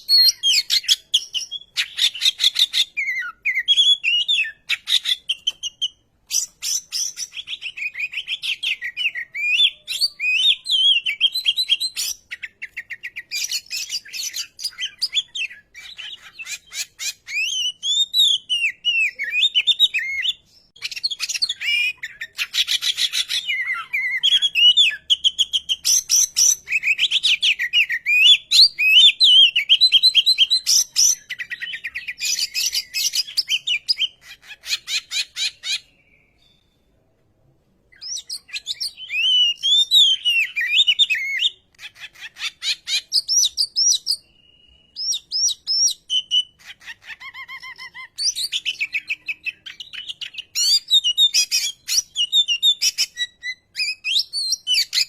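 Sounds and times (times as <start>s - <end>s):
bird singing whistled phrases: 0.0s - 36.8s, 38.0s - 55.0s.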